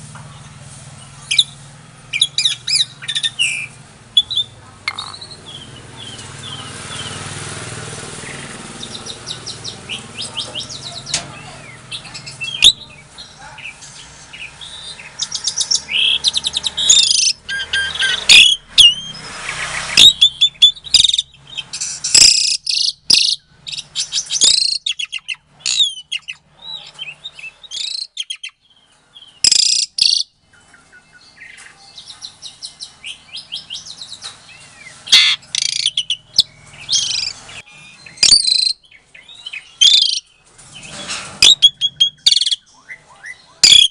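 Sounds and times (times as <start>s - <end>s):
starling singing: 0.0s - 43.9s.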